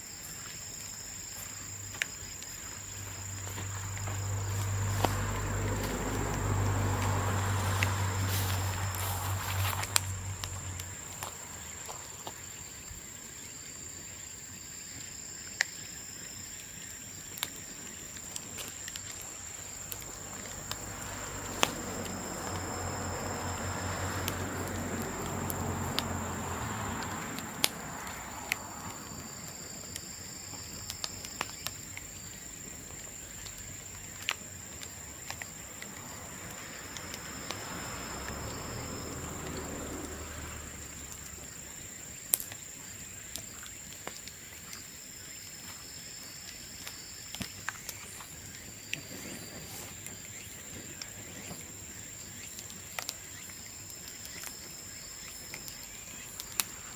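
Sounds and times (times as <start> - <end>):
bonfire crackling: 0.0 - 56.9.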